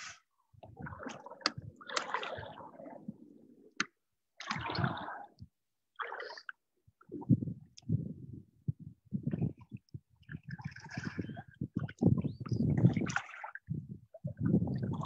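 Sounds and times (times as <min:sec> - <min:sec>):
water sloshing and splashing: 0:00.0 - 0:08.3, 0:09.1 - 0:15.0.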